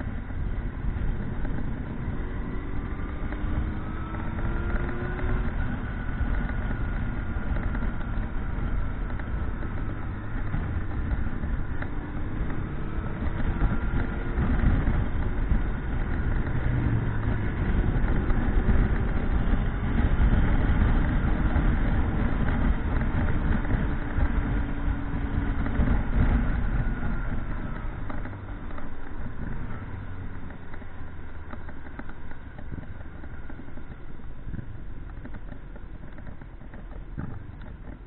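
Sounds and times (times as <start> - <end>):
motorcycle engine: 0.0 - 38.0
wind rumble: 0.0 - 38.0.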